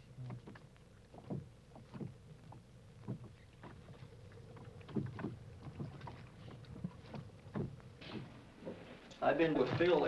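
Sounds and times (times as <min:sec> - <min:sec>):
knocks and thuds from a boat: 0:00.0 - 0:08.8.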